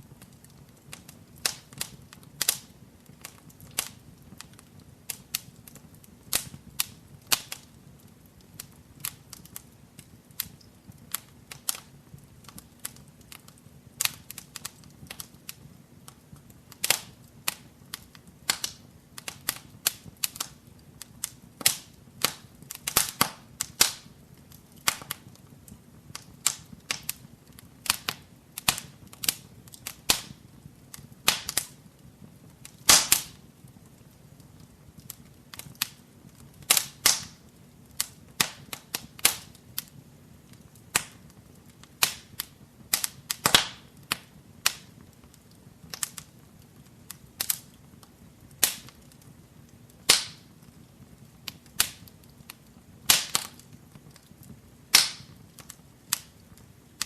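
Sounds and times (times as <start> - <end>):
faint hiss of flame: 0.0 - 57.0
wood fire crackling: 0.0 - 57.0.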